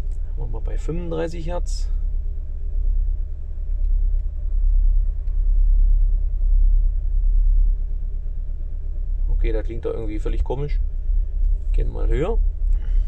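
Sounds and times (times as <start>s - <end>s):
subwoofer deep test tone drone: 0.0s - 13.0s.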